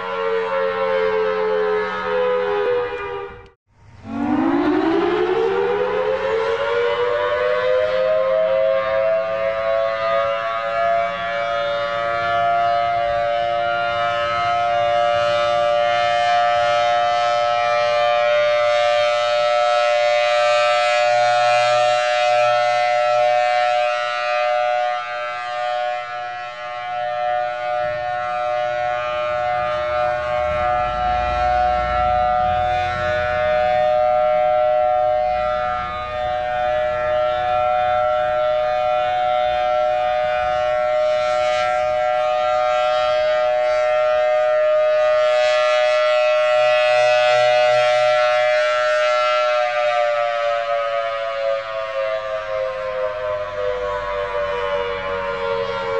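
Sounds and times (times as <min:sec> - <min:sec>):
warning siren steady tone: 0:00.0 - 0:55.9.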